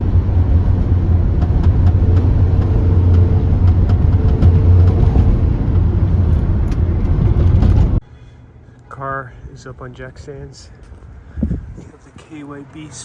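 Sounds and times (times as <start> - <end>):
road and tyre rumble: 0.0 - 8.1, 10.4 - 13.0.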